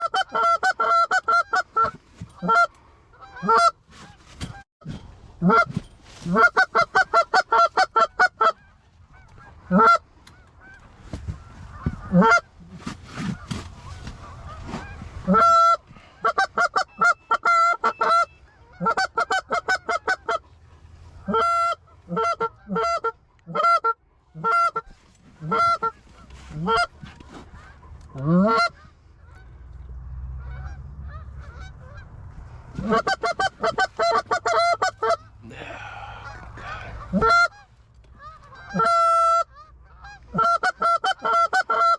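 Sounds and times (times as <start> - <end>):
geese honking: 0.0 - 4.6, 5.4 - 41.9.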